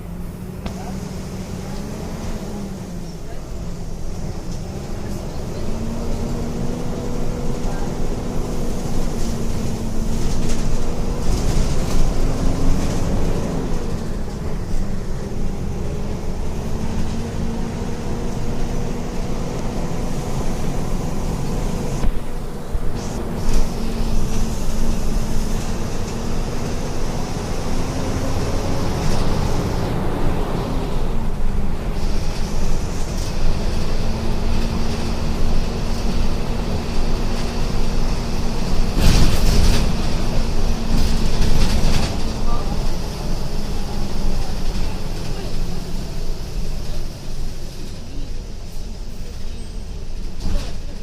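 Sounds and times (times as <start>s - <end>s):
diesel bus engine droning: 0.0s - 51.0s.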